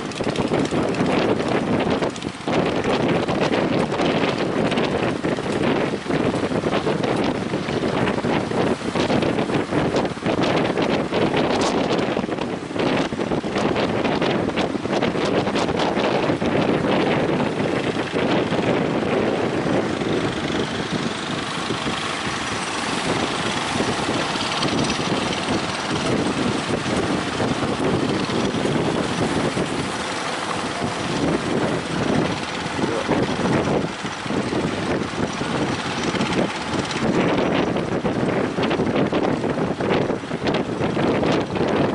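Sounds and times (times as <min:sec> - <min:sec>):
speedboat motor running: 0:00.0 - 0:41.9
wind buffeting microphone: 0:00.0 - 0:41.9.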